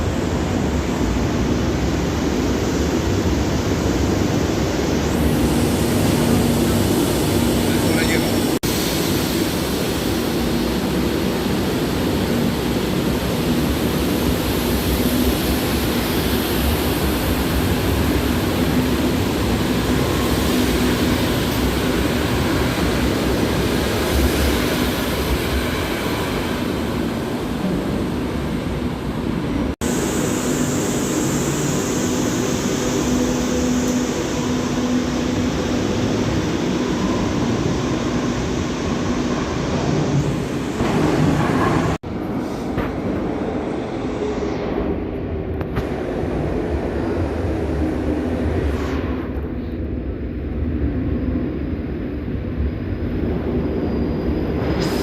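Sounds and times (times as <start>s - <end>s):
metro train rumbling: 0.0s - 55.0s.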